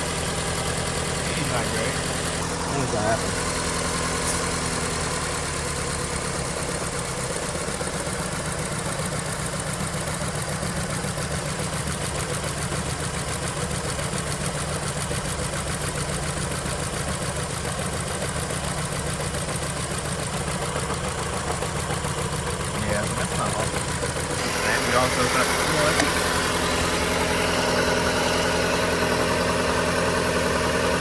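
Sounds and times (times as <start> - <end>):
car engine idling with misfire: 0.0 - 31.0.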